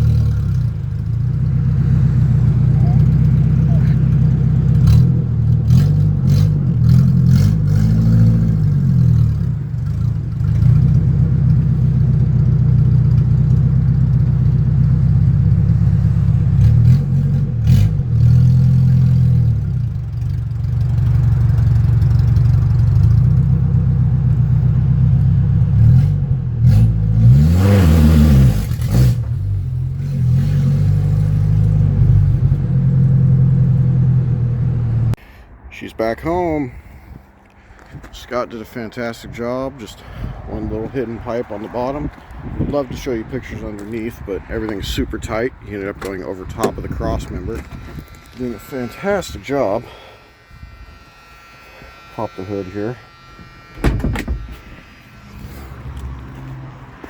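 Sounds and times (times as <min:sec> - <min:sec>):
car engine running: 0:00.0 - 0:35.2, 0:37.4 - 0:57.0.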